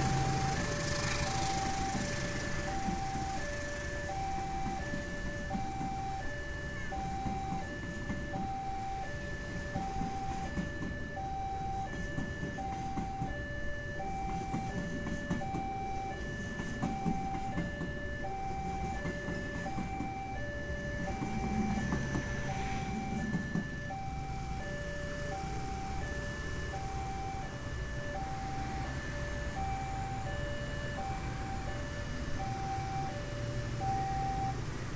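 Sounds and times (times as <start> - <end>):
train rumbling past: 0.0 - 8.4, 9.1 - 34.9.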